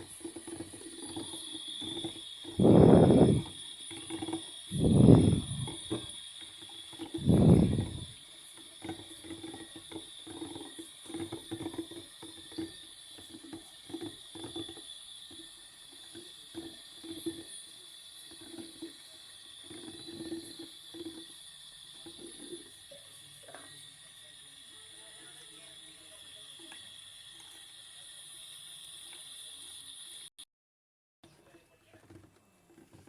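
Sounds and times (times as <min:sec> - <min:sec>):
washing machine motor humming: 0:00.0 - 0:30.3.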